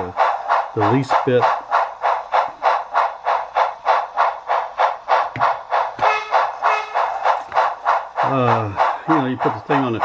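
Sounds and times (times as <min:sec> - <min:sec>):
model train steam chuffs: 0:00.0 - 0:10.0.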